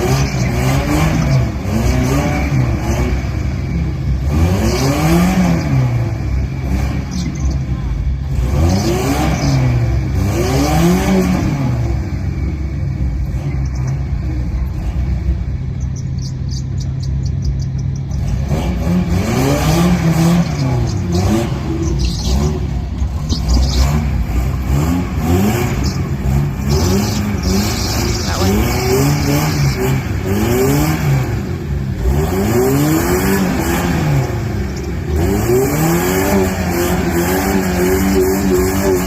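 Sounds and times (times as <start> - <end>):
engine revving: 0.0 - 39.0.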